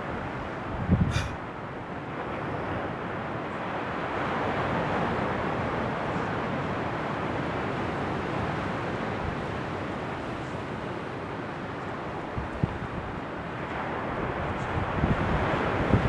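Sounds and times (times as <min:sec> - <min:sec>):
sea surf: 0:00.0 - 0:16.0
wind: 0:00.0 - 0:16.0.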